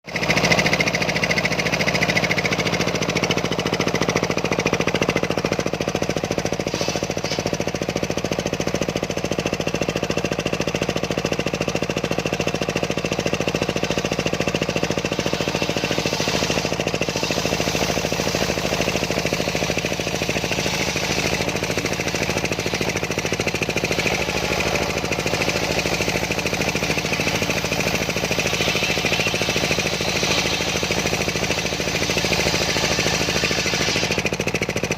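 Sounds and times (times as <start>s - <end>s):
engine-driven sawmill pulsing: 0.0s - 34.9s.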